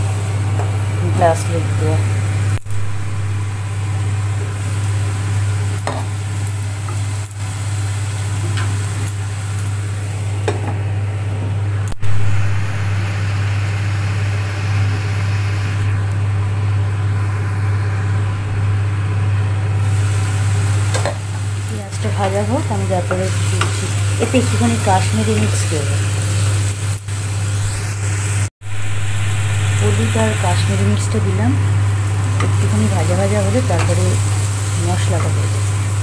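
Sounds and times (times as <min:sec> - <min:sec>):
onions sizzling in oil: 0:00.0 - 0:36.0
steady low hum: 0:00.0 - 0:36.0.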